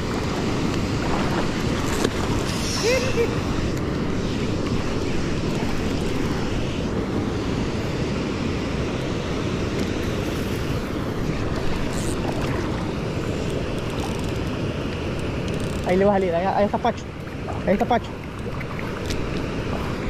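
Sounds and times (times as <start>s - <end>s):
fast-flowing river water: 0.0s - 20.0s.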